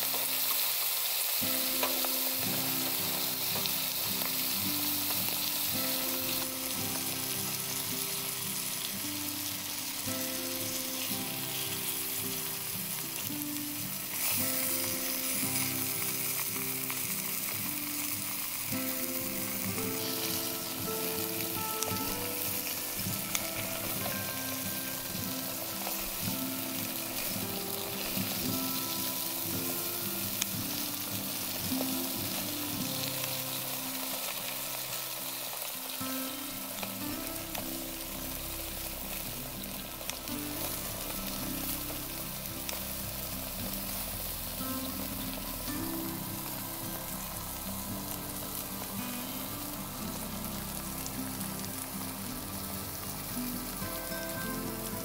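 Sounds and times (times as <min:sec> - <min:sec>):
meat sizzling on a griddle: 0:00.0 - 0:55.0
slow background music: 0:00.0 - 0:55.0.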